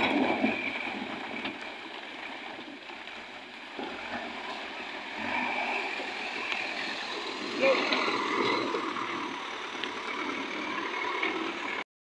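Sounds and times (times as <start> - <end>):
river water flowing: 0.0 - 11.8
diesel engine running: 0.0 - 11.9.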